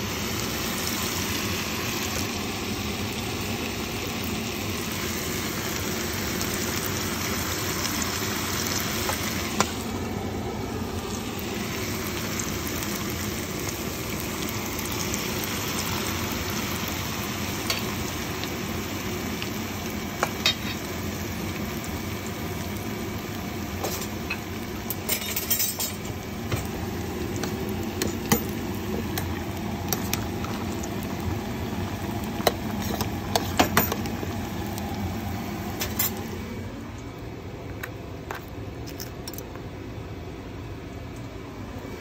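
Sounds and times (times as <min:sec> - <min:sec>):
fish sizzling in hot oil: 0:00.0 - 0:36.4.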